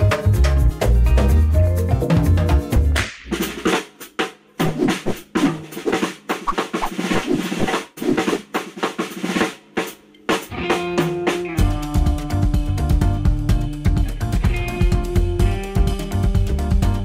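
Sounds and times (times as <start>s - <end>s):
drum and percussion music: 0.0s - 17.0s.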